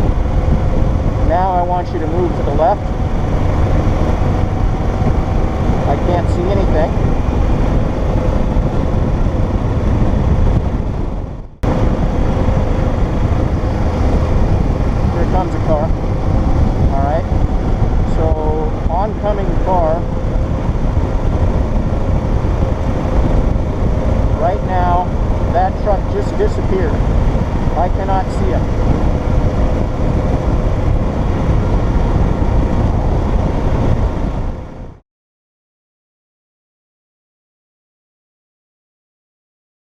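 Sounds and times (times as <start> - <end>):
motorcycle engine rumble: 0.0 - 35.0
wind rush: 0.0 - 35.0.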